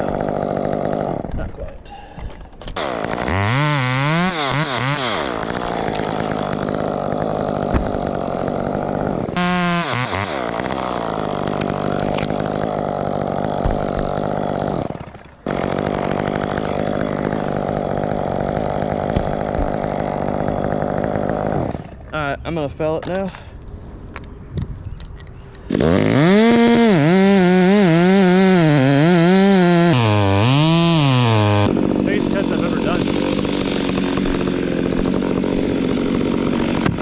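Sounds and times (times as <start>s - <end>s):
chainsaw revving: 0.0s - 1.4s, 2.7s - 22.1s, 25.6s - 37.0s.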